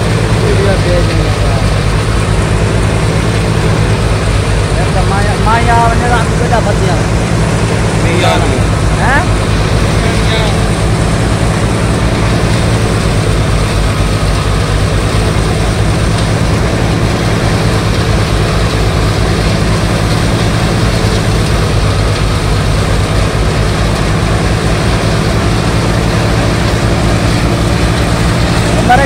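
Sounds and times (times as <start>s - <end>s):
threshing rush: 0.0s - 29.0s
tractor engine drone: 0.0s - 29.0s.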